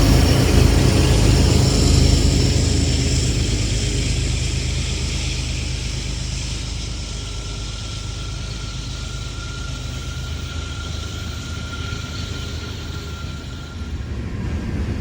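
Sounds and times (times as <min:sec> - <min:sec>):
thin steady high tone: 0:00.0 - 0:14.0
diesel locomotive rumble: 0:00.0 - 0:15.0
freight cars rolling: 0:00.0 - 0:15.0.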